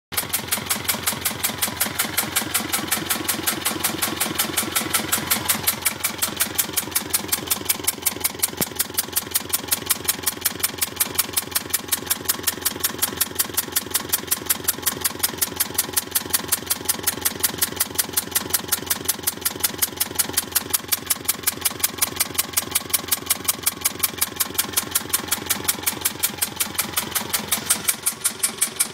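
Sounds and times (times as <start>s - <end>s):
diesel engine idling: 0.1s - 28.9s
regular engine ticking knock: 0.1s - 28.9s.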